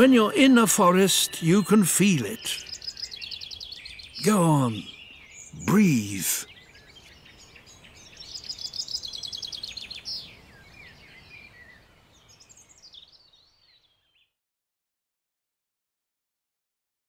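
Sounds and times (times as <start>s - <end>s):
bird trill: 0.0s - 14.1s
faint outdoor hiss: 0.0s - 14.2s
songbirds singing: 0.0s - 14.4s.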